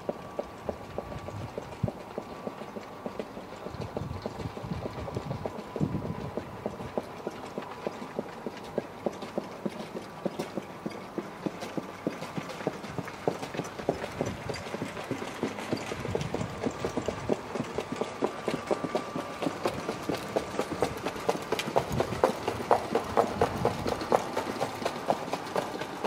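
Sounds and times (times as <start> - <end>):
trotting horse hoofbeats: 0.0 - 26.0.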